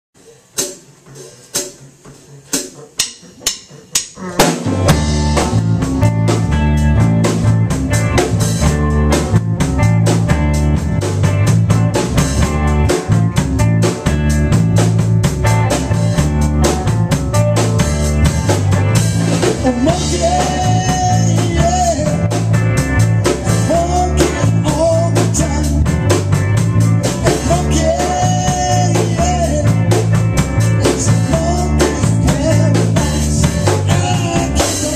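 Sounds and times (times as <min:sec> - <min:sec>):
drum kit: 0:00.2 - 0:34.9
blues band playing live: 0:00.3 - 0:34.9
walking bass line: 0:02.0 - 0:34.9
bending lead guitar notes: 0:03.2 - 0:34.9.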